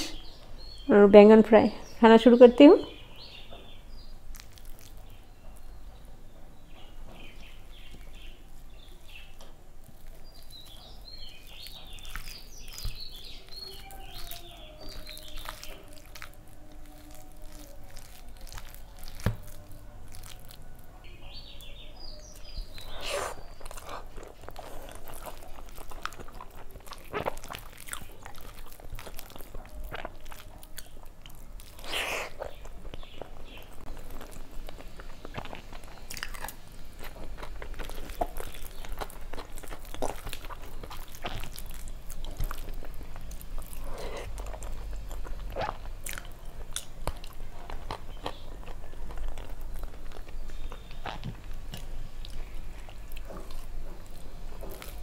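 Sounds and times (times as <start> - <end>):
mouth chewing: 3.2 - 6.0, 6.6 - 55.0
fingers squishing food: 3.4 - 5.9, 6.6 - 55.0.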